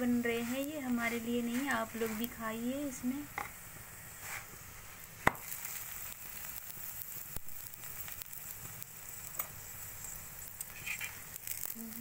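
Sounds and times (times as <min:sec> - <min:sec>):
flatbread sizzling on griddle: 0:00.0 - 0:12.0.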